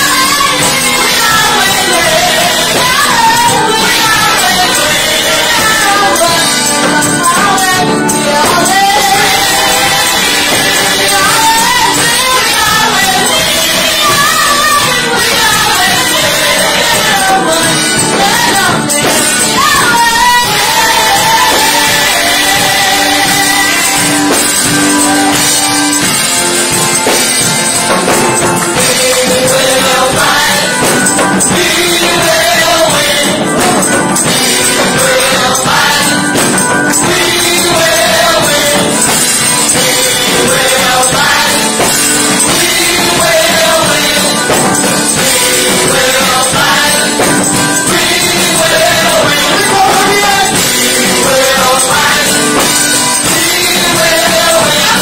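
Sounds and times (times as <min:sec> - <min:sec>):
band accompaniment: 0:00.0 - 0:55.0
group singing gospel music: 0:00.0 - 0:55.0.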